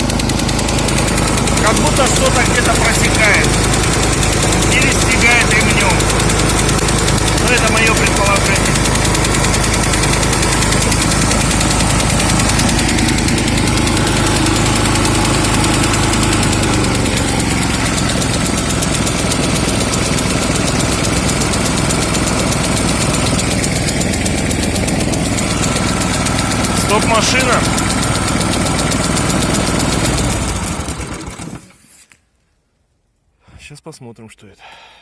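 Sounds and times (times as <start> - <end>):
snowblower engine running: 0.0 - 32.0.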